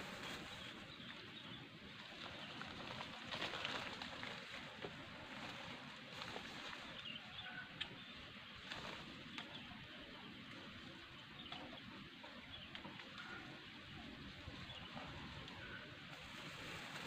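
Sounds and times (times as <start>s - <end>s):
leaves rustling: 0.0s - 11.1s, 12.8s - 17.0s.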